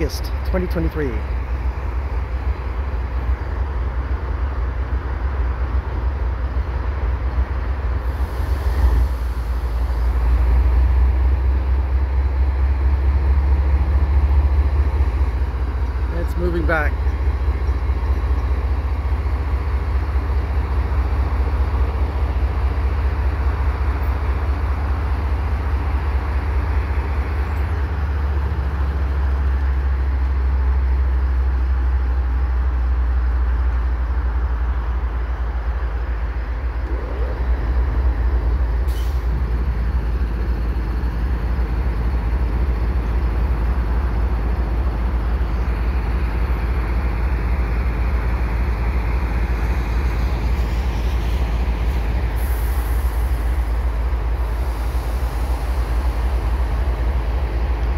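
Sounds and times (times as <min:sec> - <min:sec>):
diesel locomotive engine rumbling: 0:00.0 - 0:57.9.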